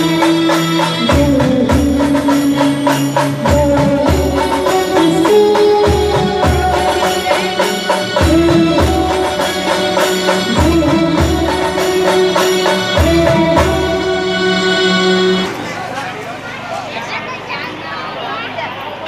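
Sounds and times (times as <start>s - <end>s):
girl singing into a microphone: 0.0s - 15.5s.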